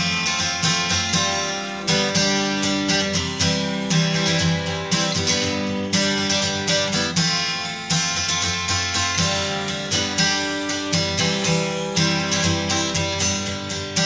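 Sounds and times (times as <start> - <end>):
strummed guitar chords: 0.0 - 14.0.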